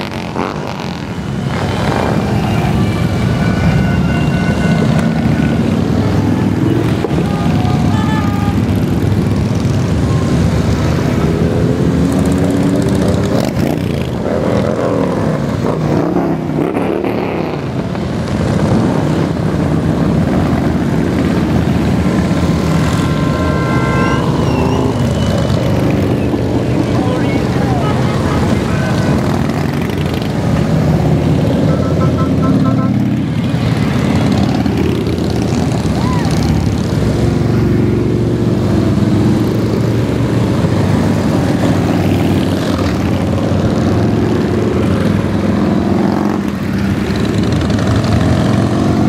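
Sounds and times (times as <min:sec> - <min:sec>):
motorcycles riding past: 0:00.0 - 0:49.0.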